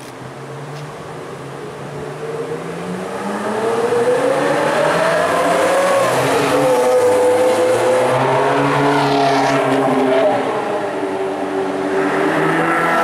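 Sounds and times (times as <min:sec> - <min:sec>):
sports car accelerating: 0:01.6 - 0:13.0.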